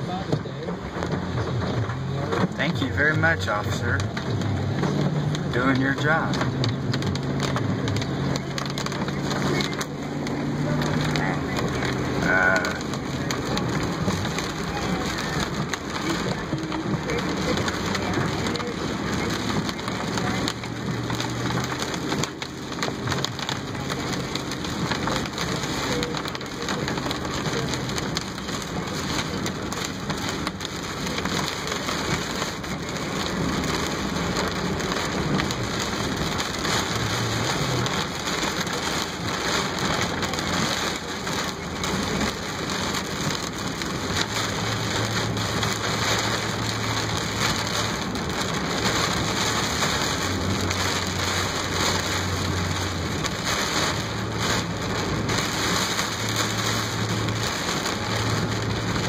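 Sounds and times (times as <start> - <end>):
heavy rain on car roof: 0.0 - 59.0
low hum of moving car: 0.0 - 59.0.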